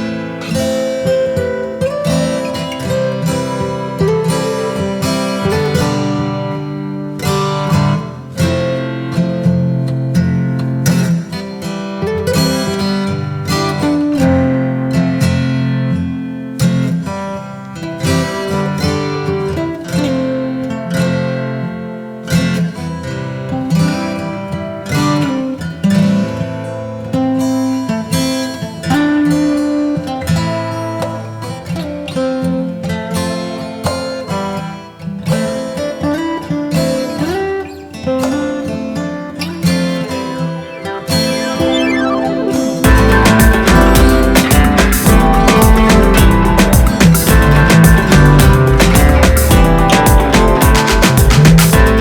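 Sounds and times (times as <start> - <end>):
acoustic guitar music: 0.0 - 52.0.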